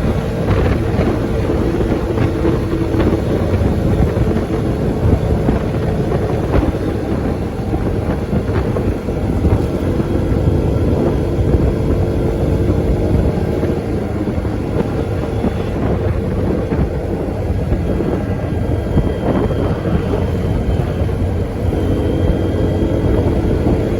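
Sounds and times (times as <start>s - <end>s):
vehicle engine and road noise: 0.0s - 23.9s
wind on microphone: 0.0s - 23.9s.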